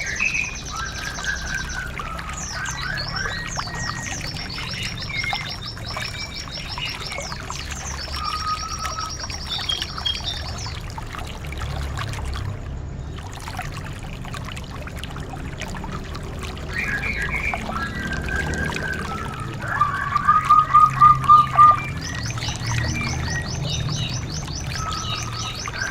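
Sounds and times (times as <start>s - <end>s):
songbirds singing: 0.0s - 12.0s, 12.6s - 25.9s
running water rushing: 0.0s - 25.9s.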